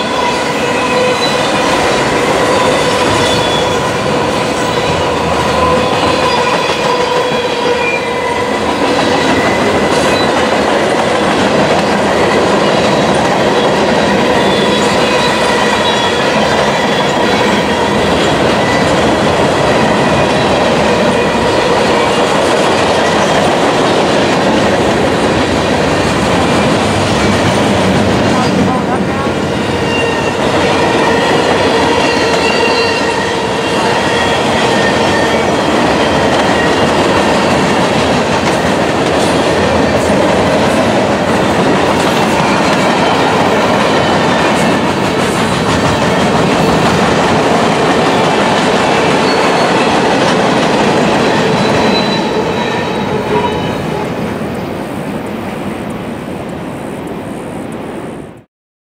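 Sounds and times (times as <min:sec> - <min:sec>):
freight train wheels rattling on rails: 0:00.0 - 0:56.8.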